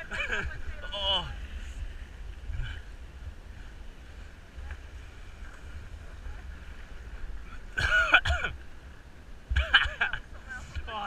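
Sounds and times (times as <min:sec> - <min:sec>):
water: 0:00.0 - 0:11.0
wind rumble on microphone: 0:00.0 - 0:11.0.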